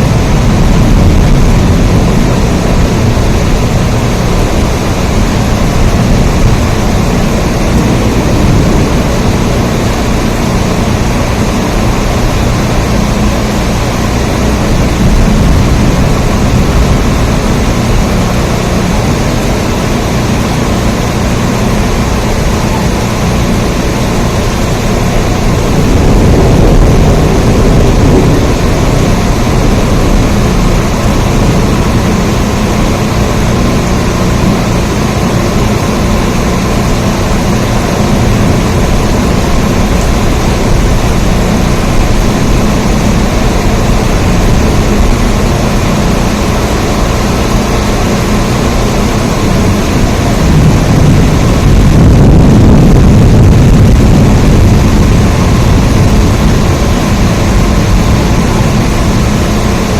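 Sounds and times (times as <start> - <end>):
deep rumble: 0.0 - 59.9
heavy rain: 0.0 - 59.9.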